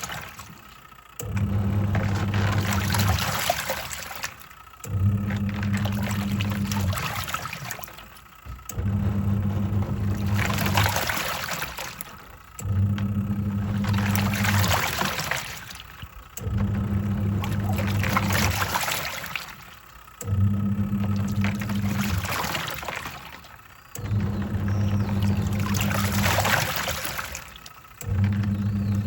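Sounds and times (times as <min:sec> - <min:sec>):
washing machine motor humming: 0:00.0 - 0:29.0
water swishing: 0:00.0 - 0:29.0.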